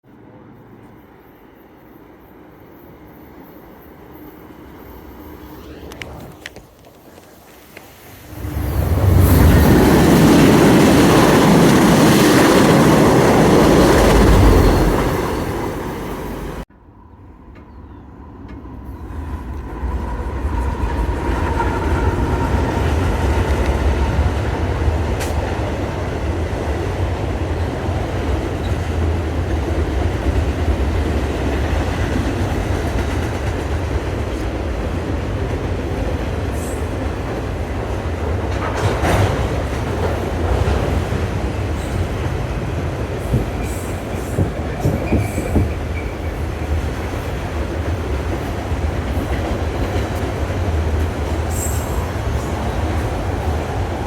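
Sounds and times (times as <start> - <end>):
train wheels rumbling on rails: 2.7 - 16.7, 17.4 - 54.0.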